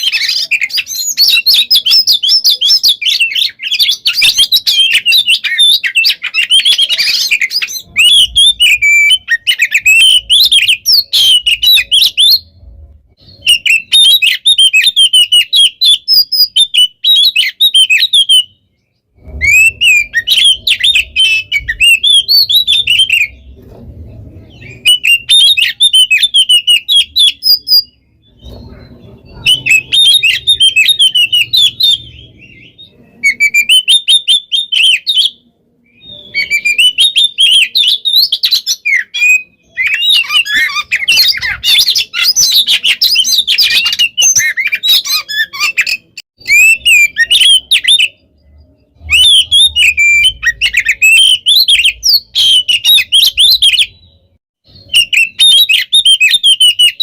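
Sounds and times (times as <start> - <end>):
bird singing chirps and whistles: 0.0 - 57.0.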